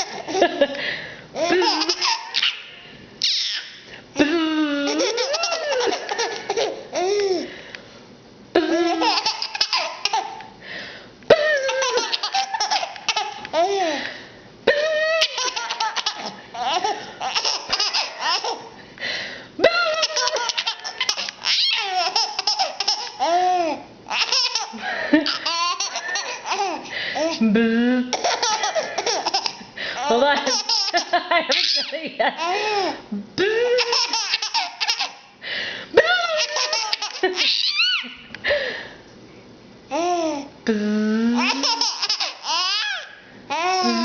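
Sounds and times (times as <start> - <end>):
baby laughing: 0.0 - 0.7, 1.4 - 7.5, 8.6 - 10.5, 11.3 - 14.0, 14.7 - 18.8, 19.6 - 27.4, 28.1 - 35.3, 36.0 - 38.3, 41.4 - 44.0.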